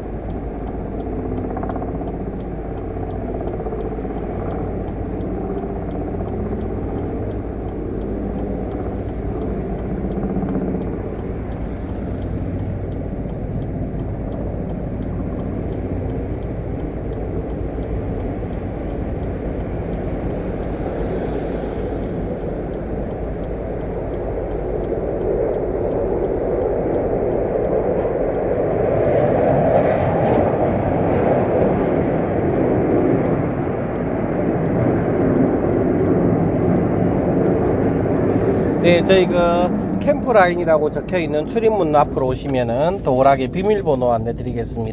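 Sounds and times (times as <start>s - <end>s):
engine rumble: 0.0s - 44.9s.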